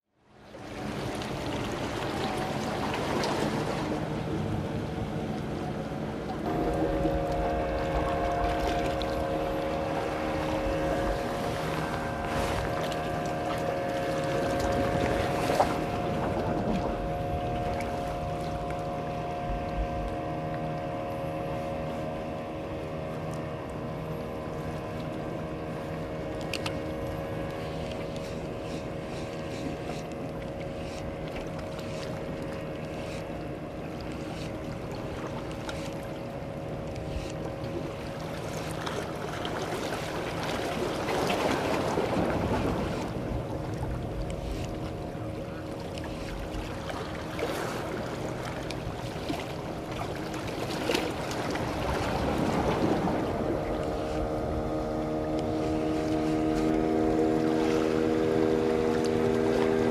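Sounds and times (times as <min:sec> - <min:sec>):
motorboat engine droning: 0:00.1 - 0:59.9.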